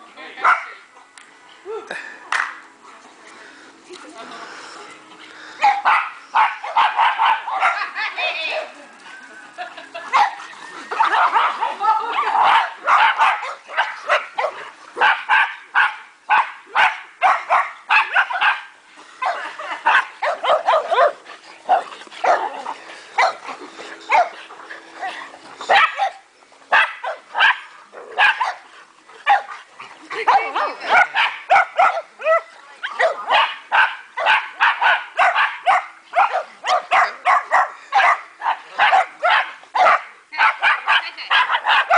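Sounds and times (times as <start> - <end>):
dogs barking and yipping: 5.5 - 41.9.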